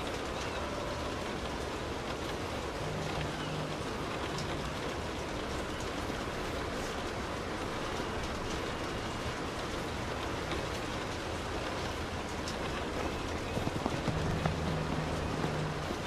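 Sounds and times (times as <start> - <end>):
low steady hum: 0.0 - 16.0
rain on car roof and windows: 0.0 - 16.0.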